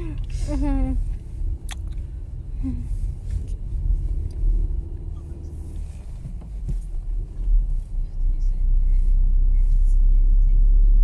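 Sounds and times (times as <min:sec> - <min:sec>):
car road and engine rumble: 0:00.0 - 0:11.0
faint held hum: 0:00.0 - 0:11.0.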